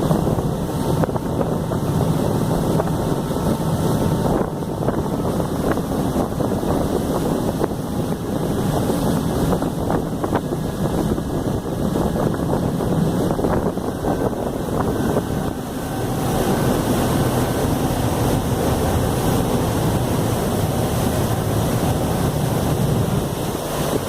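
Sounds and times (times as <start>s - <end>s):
ferry engine humming: 0.0s - 24.0s
wind on microphone: 0.0s - 24.0s.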